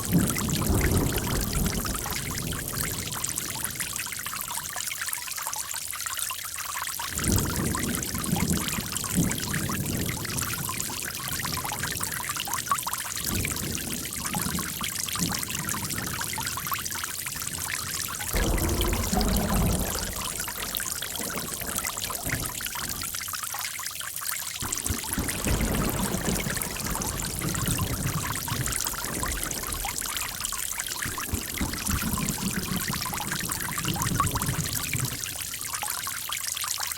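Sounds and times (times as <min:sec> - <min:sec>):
water pouring and gurgling: 0:00.0 - 0:36.9.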